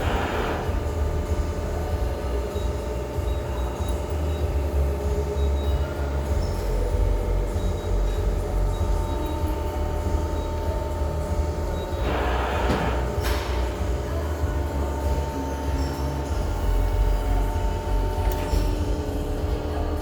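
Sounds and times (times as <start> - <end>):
hydraulic press humming: 0.0 - 20.0.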